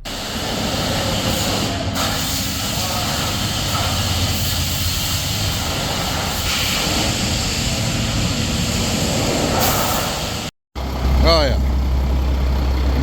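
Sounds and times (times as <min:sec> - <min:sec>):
diesel truck engine drone: 0:00.0 - 0:13.0
rushing roar: 0:00.0 - 0:13.0.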